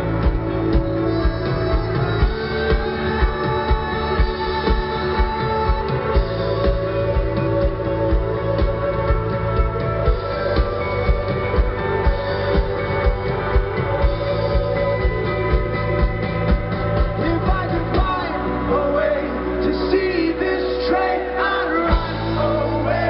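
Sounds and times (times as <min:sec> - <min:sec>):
man singing: 0:00.0 - 0:14.8, 0:17.0 - 0:23.0
rock band playing live: 0:00.0 - 0:23.0.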